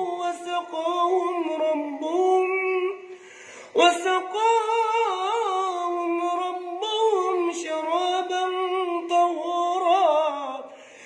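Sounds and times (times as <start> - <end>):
man chanting melodically: 0.0 - 3.1, 3.7 - 10.8.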